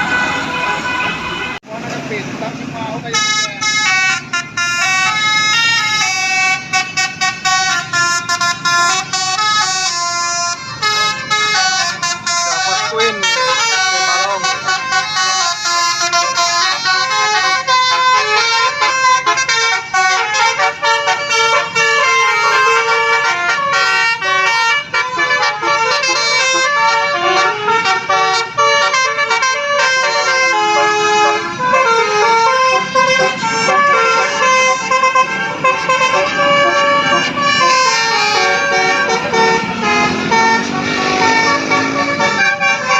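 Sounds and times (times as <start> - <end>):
musical bus air horn melody: 0.0 - 1.6, 3.1 - 42.9.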